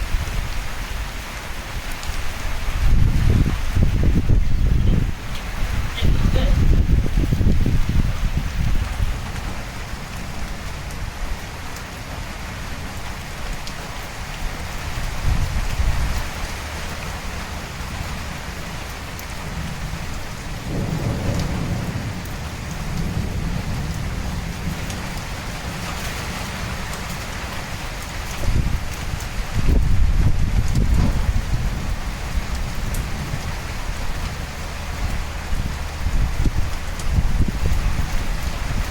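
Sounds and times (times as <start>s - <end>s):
heavy rain pouring: 0.0s - 38.9s
thunder rumbling: 2.1s - 13.2s, 14.5s - 38.9s.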